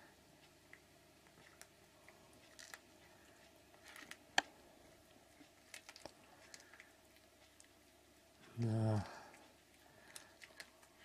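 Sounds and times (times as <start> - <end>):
cat crunching on prey: 0.7 - 11.0.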